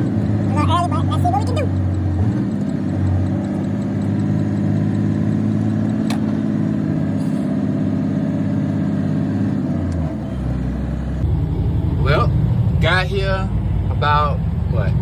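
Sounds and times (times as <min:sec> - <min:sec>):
truck engine running: 0:00.0 - 0:14.7.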